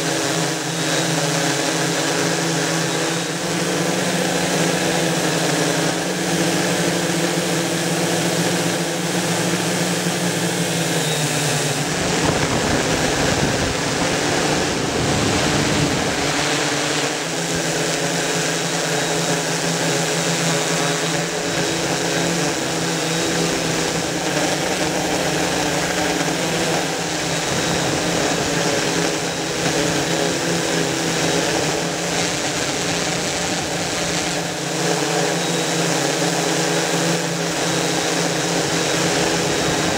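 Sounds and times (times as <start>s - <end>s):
drone propellers droning: 0.0s - 39.9s.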